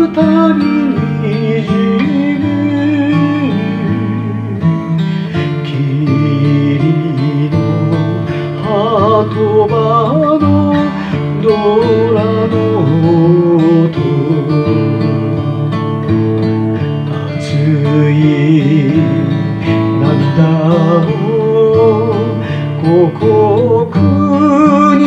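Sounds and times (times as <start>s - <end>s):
man singing a slow ballad: 0.0s - 25.0s
strummed acoustic guitar: 0.0s - 25.0s.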